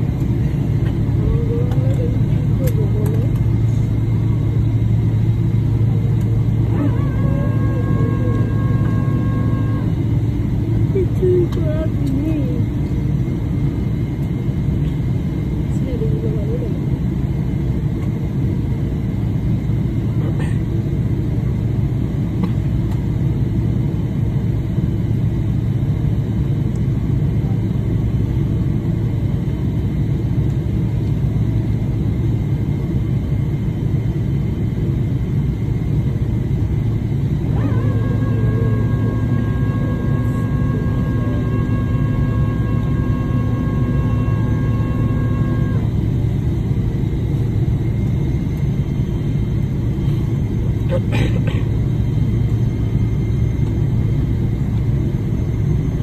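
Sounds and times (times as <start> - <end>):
aircraft cabin low rumble: 0.0 - 56.0
multi-tone whine: 0.0 - 56.0.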